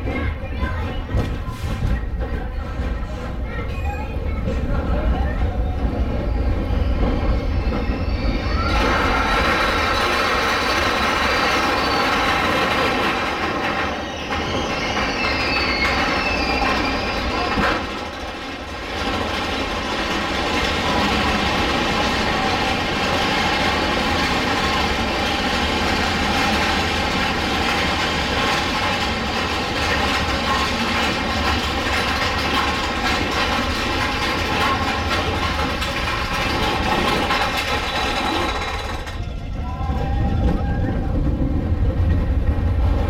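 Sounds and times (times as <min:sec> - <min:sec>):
roller coaster clatter and rumble: 0:00.0 - 0:43.0.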